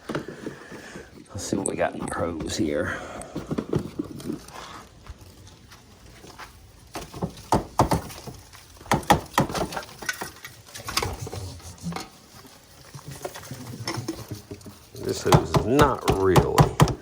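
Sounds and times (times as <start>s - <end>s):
vacuum hose knocking and rattling: 0.0s - 4.6s, 6.9s - 12.1s, 12.8s - 17.0s.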